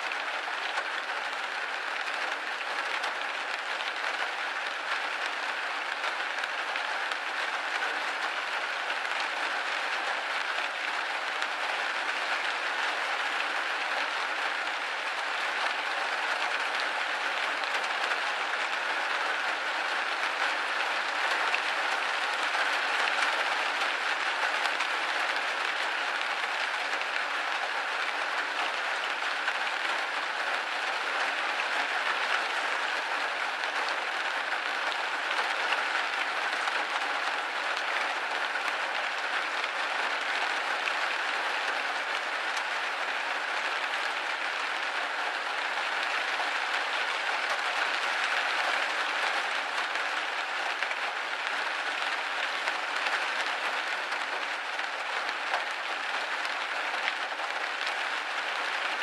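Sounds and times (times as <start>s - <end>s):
rain hitting a window: 0.0s - 59.0s.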